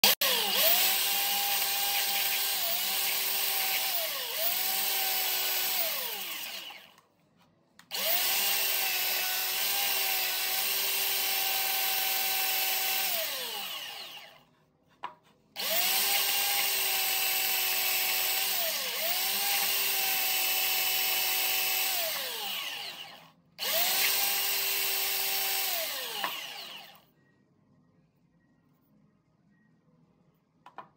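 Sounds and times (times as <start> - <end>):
belt sander motor whine: 0.0 - 7.0, 7.9 - 14.4, 15.6 - 27.0
motor winding down: 0.0 - 7.0, 7.9 - 14.4, 15.6 - 27.0.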